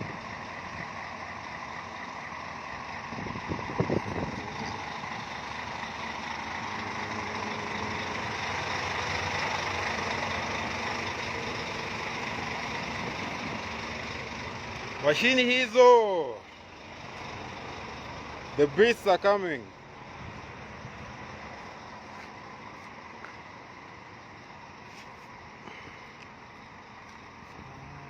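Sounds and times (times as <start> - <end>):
heavy bus engine running: 0.0 - 28.0.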